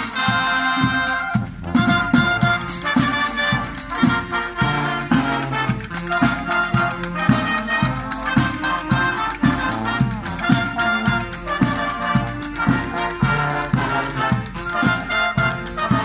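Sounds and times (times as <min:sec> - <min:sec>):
marching band brass melody: 0:00.0 - 0:16.0
snare drum marching beat: 0:00.0 - 0:16.0.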